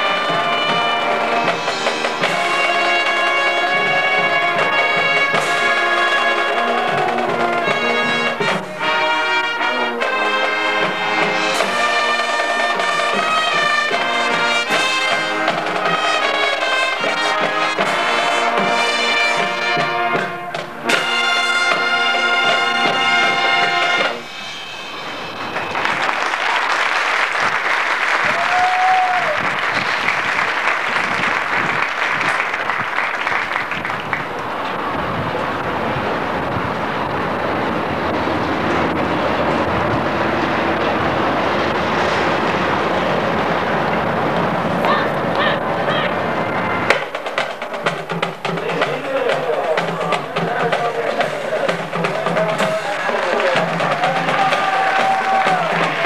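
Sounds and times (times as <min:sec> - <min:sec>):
crowd applause: 0:00.0 - 0:24.3, 0:25.0 - 0:56.0
marching band brass chords: 0:00.0 - 0:56.0.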